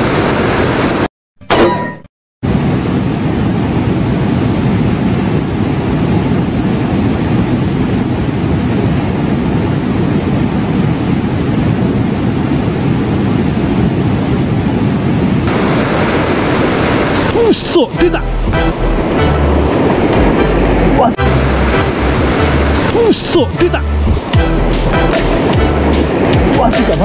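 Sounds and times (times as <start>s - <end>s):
whitewater river rushing: 3.4s - 27.0s.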